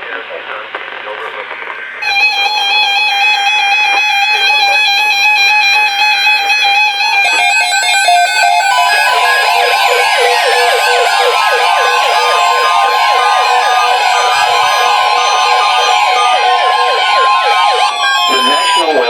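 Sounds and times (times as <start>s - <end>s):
steady high tone: 1.1s - 19.0s
electronic beeping tones: 1.8s - 19.0s
warbling siren-like tones: 1.8s - 19.0s.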